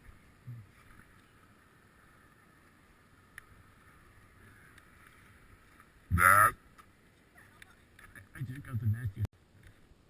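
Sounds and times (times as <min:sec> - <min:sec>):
faint background noise: 0:00.0 - 0:10.0.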